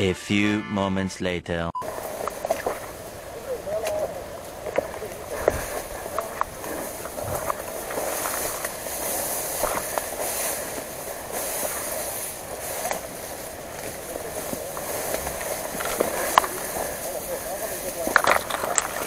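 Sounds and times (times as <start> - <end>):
grass and brush rustling: 1.8 - 19.0.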